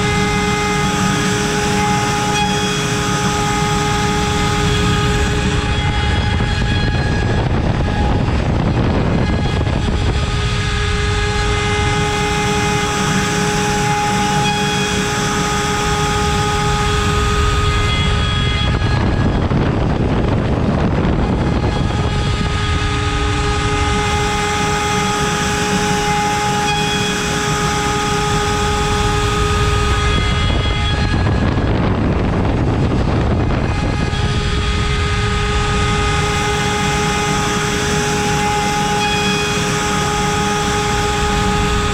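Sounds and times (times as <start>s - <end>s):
cutter milling wood: 0.0s - 19.6s, 21.8s - 31.6s, 34.0s - 41.9s
cnc router spindle whine: 0.0s - 41.9s.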